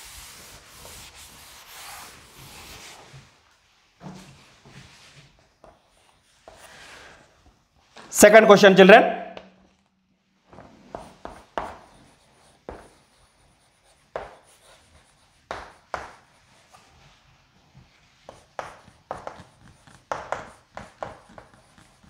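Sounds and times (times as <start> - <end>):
chalk tapping and scraping on blackboard: 0.0 - 3.3, 4.2 - 7.6, 10.5 - 22.0.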